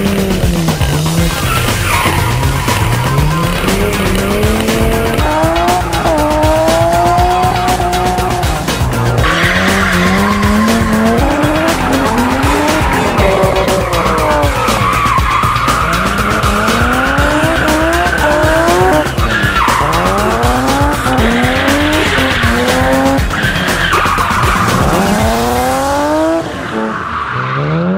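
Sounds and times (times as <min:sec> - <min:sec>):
tyres squealing: 0:00.0 - 0:27.8
car engine revving: 0:00.0 - 0:27.9.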